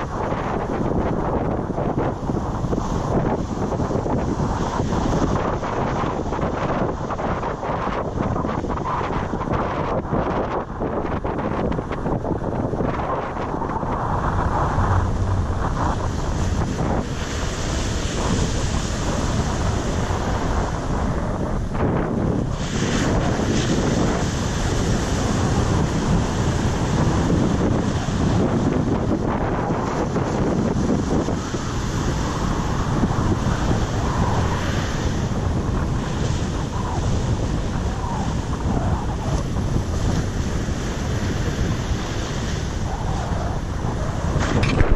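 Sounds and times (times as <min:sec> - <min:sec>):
surf breaking on sandy beach: 0:00.0 - 0:44.9
wind buffeting microphone: 0:00.0 - 0:44.9.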